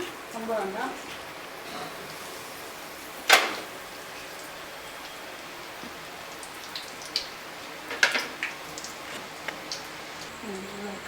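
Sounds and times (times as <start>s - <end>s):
deep-frying sizzle: 0.0s - 11.0s
oil popping: 1.1s - 10.7s.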